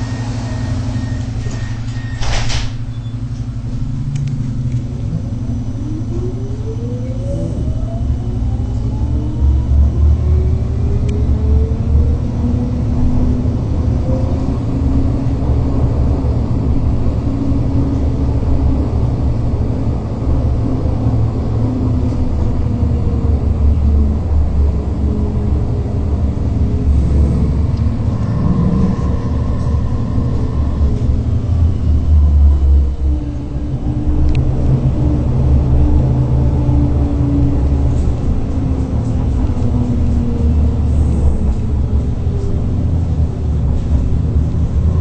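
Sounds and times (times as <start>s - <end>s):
tram motor whine: 0.0s - 45.0s
tram wheels rumbling on track: 0.0s - 45.0s.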